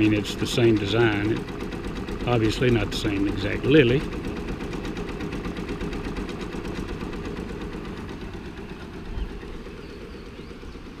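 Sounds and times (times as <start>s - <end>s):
embroidery machine stitching: 0.0s - 9.0s.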